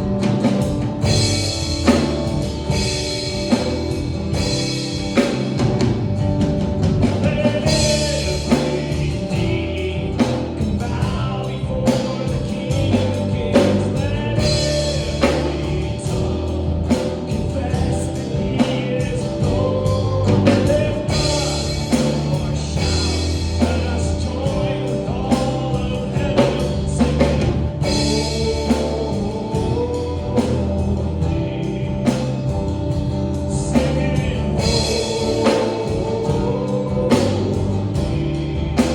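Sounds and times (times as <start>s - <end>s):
worship band playing: 0.0s - 38.9s
singers singing gospel song: 6.9s - 38.9s.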